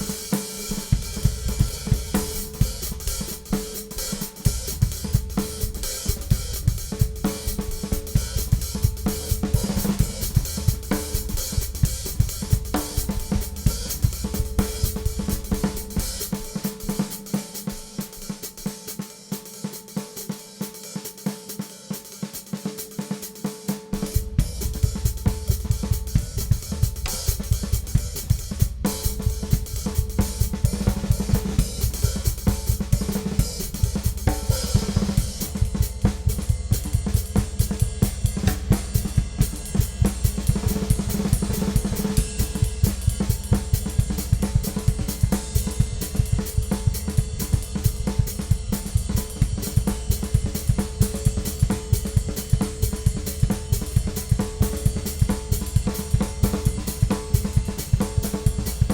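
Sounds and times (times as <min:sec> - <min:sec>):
drum kit groove: 0:00.0 - 0:58.9.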